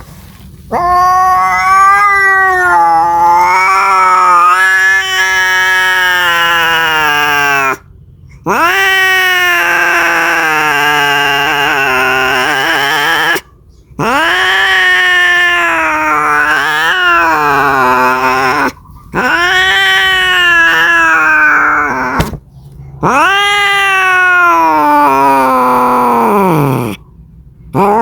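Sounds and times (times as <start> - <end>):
cat yowling: 0.7 - 7.8, 8.5 - 22.4, 23.0 - 27.0, 27.7 - 28.0.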